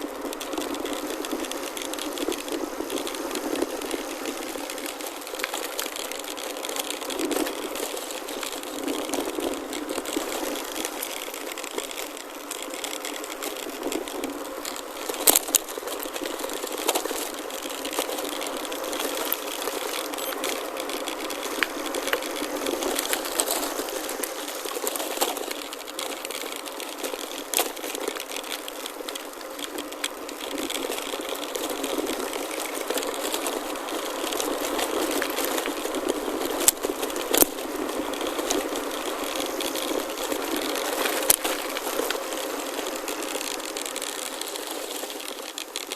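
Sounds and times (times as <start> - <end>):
bike rattling and knocking: 0.0 - 45.9
tyres crunching on gravel: 0.0 - 45.9.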